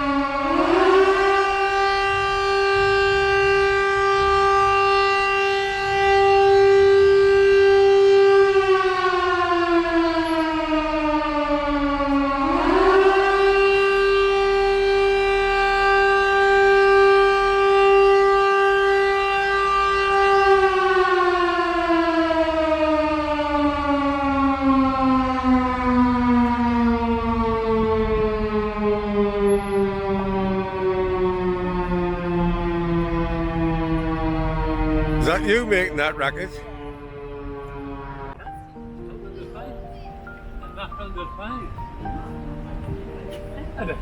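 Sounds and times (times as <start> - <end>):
emergency siren wailing: 0.0 - 38.9.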